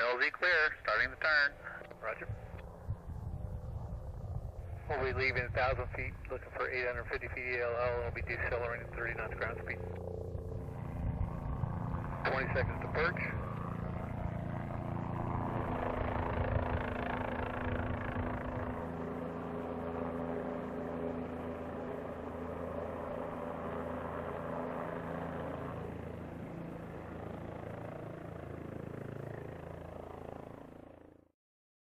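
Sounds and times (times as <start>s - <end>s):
helicopter rotor and turbine: 0.0s - 31.3s.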